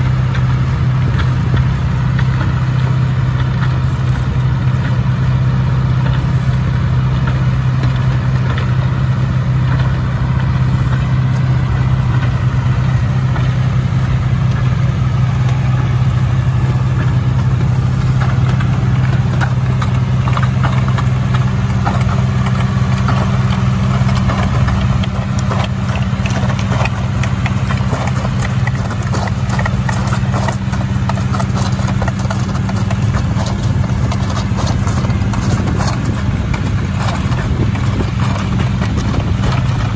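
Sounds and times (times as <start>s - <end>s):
muck spreader clatter: 0.0s - 39.9s
tractor diesel engine running: 0.0s - 39.9s.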